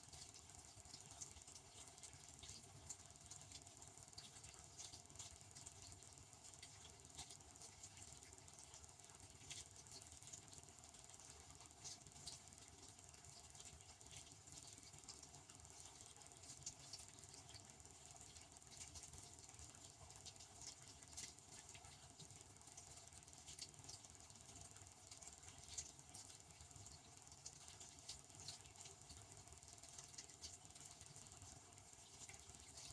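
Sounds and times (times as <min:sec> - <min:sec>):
small ticks: 0:00.0 - 0:32.9.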